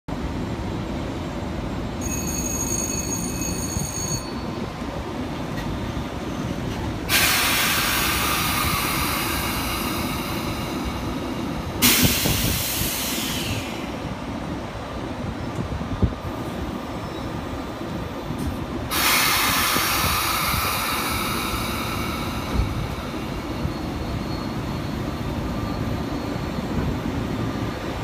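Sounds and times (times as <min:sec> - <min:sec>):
low train rumble: 0:00.1 - 0:28.0.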